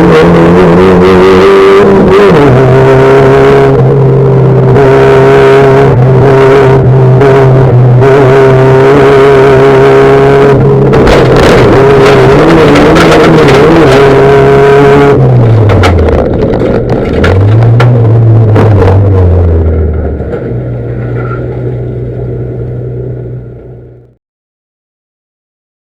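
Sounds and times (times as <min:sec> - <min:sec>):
rallycross car engines revving: 0:00.0 - 0:24.2.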